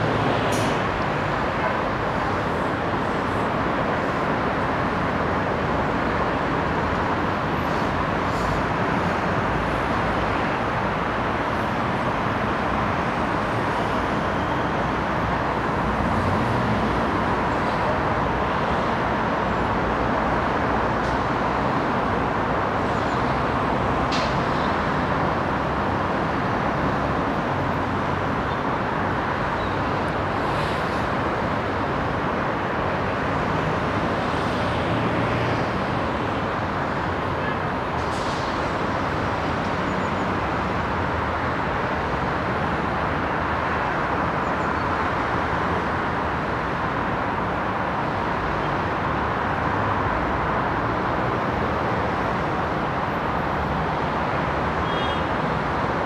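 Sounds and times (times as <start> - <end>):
city road traffic hum: 0.0 - 56.0.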